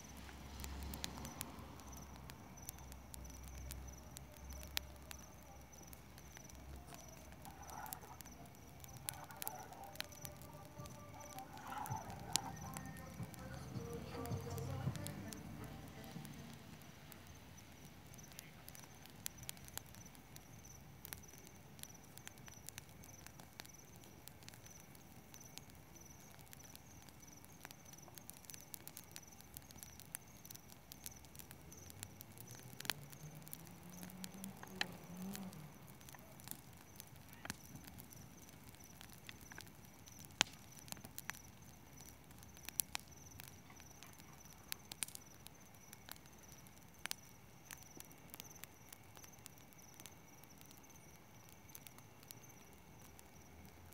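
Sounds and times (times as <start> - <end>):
campfire crackling and popping: 0.0 - 53.9
crickets chirping: 0.0 - 53.9.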